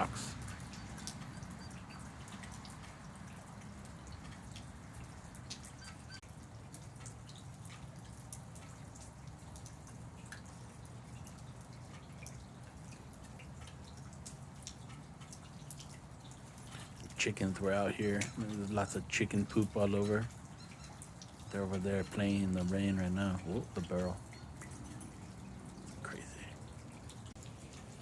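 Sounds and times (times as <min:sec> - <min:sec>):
rain drops ticking: 0:00.0 - 0:28.0.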